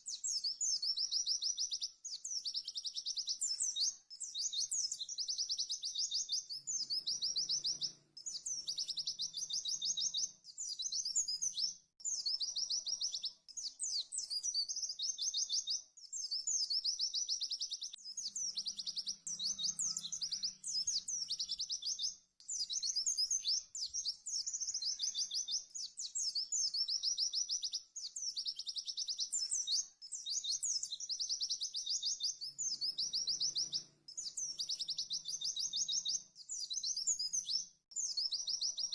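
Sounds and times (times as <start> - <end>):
bird trilling song: 0.0 - 38.9.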